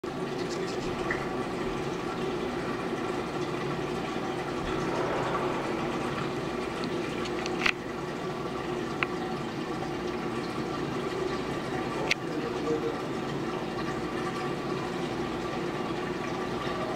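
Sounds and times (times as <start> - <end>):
trickling water: 0.0 - 16.9
pump hum: 0.1 - 16.9.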